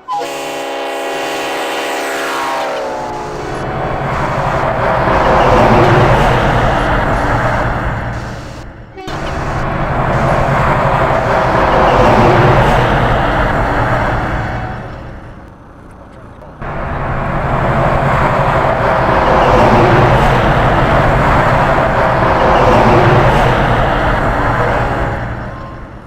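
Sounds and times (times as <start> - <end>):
heavy vehicle passing: 0.4 - 26.0.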